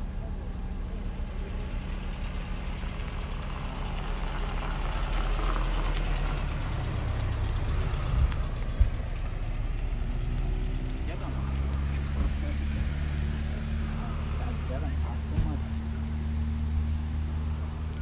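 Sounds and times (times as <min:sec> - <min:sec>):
pickup engine driving past: 0:01.0 - 0:18.0.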